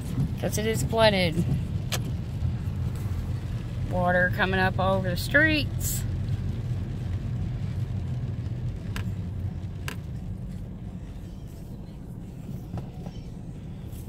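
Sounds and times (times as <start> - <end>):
car rumbling on wet road: 0.0 - 14.0.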